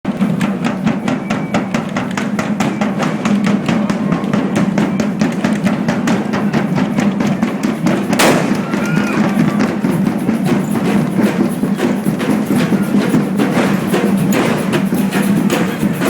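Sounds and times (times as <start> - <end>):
marching band drums beating: 0.1 - 16.0.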